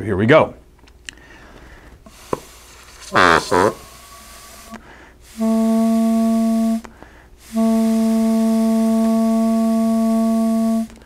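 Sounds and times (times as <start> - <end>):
kazoo held notes: 2.1 - 11.0.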